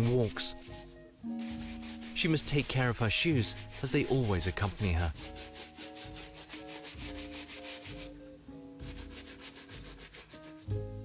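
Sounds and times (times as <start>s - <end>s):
shoe polishing rubbing strokes: 0.0s - 8.2s, 8.8s - 10.8s
soft background music: 0.0s - 11.0s.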